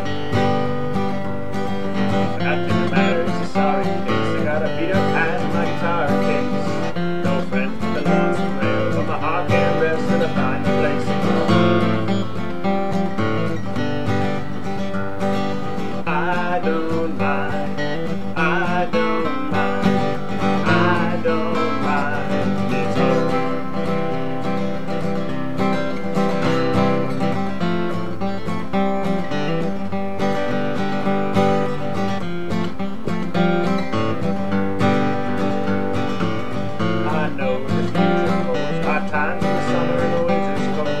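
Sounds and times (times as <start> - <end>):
strummed acoustic guitar: 0.0 - 41.0.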